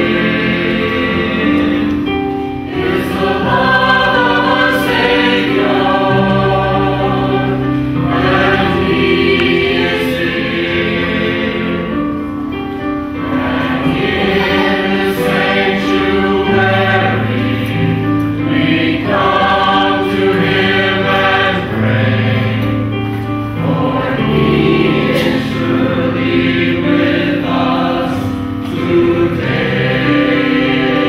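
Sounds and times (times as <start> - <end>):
choir singing held chords: 0.0 - 31.0.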